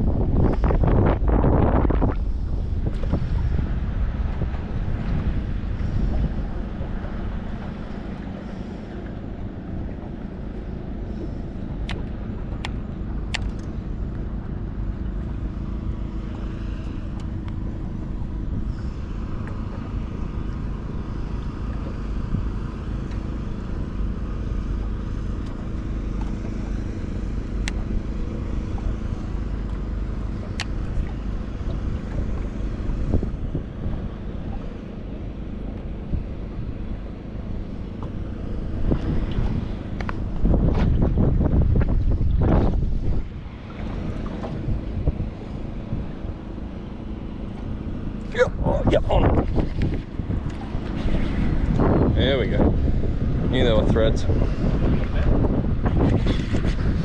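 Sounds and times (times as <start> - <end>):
faint steady hum: 0.0 - 57.0
low rumble of water and boat: 0.0 - 57.0
wind buffeting microphone: 0.0 - 57.0.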